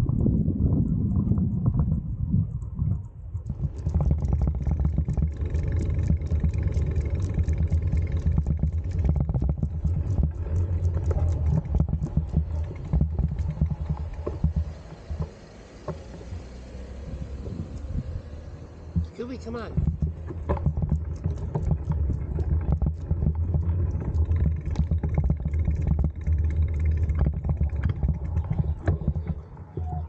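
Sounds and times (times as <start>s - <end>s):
bike tyres rolling on asphalt: 0.0s - 30.0s
light ticks: 2.6s - 29.5s.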